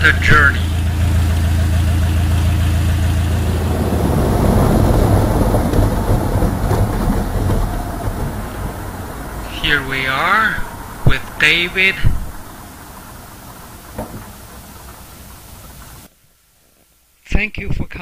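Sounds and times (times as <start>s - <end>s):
propeller airplane engine droning: 0.0s - 16.1s.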